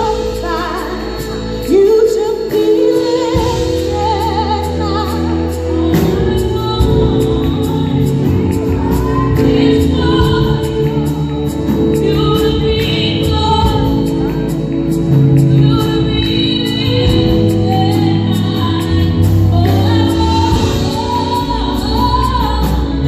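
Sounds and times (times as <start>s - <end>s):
instrumental backing: 0.0s - 23.0s.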